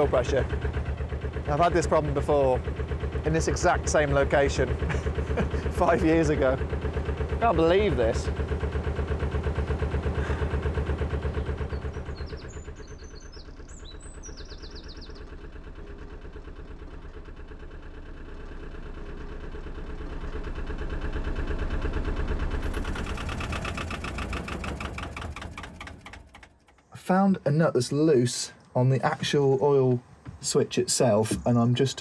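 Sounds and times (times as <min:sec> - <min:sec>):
boat engine idling: 0:00.0 - 0:32.0.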